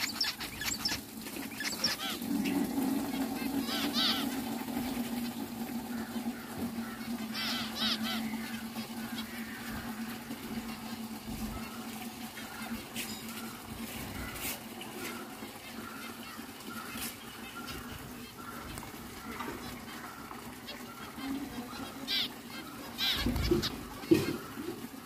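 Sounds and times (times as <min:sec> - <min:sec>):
finches calling: 0:00.0 - 0:25.0.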